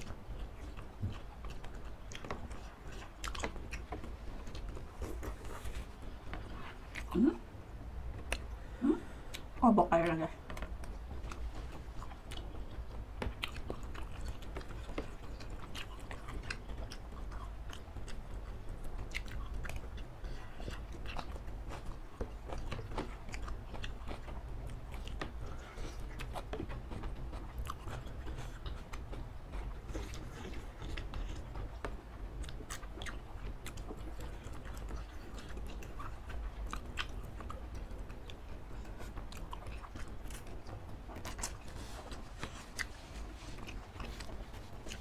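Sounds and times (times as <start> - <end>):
people chewing food: 0.0 - 45.0.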